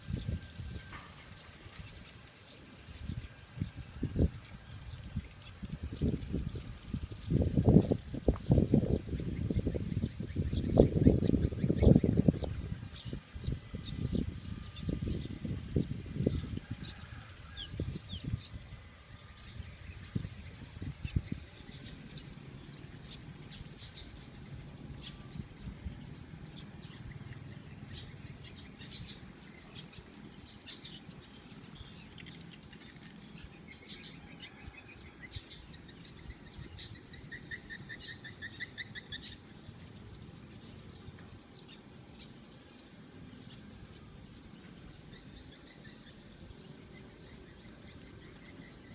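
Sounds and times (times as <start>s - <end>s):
bird trill: 0.0s - 48.9s
birds chirping and calling: 0.0s - 48.9s.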